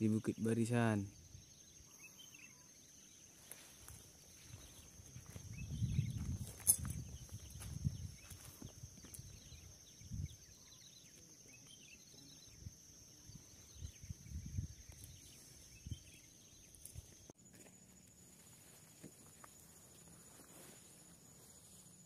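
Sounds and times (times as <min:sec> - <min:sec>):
steady high-pitched hiss: 0:00.0 - 0:22.0.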